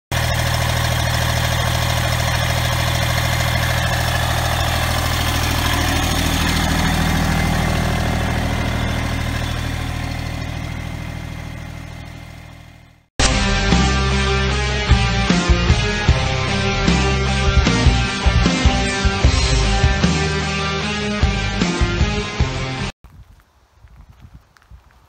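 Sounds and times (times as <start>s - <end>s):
tractor diesel engine idling: 0.1s - 21.7s.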